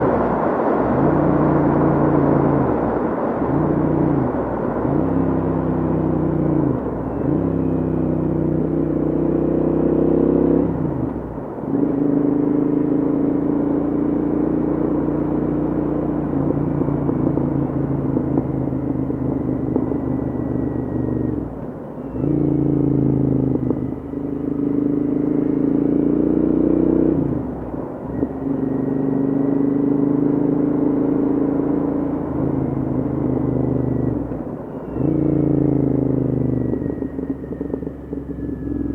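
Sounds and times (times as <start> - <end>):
exhaust pops and crackles: 0.0 - 7.6, 10.1 - 38.9
motorcycle engine revving: 0.8 - 38.9.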